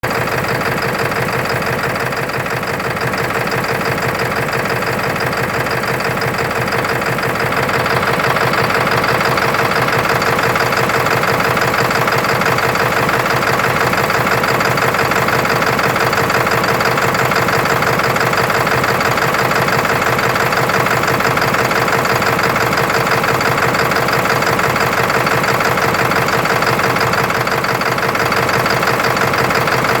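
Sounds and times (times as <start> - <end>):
diesel engine idling roughly: 0.0 - 30.0.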